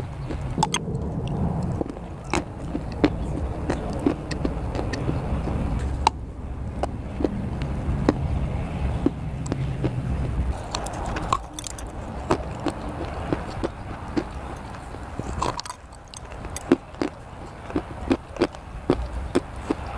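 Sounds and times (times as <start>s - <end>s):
crunchy chewing of clay: 0.0s - 19.9s
low rumble: 0.0s - 19.9s.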